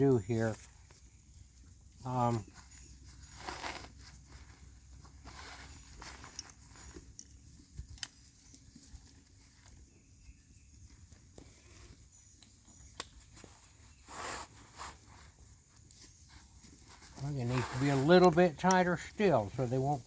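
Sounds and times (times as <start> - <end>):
rustling of protective chaps: 0.0 - 20.0.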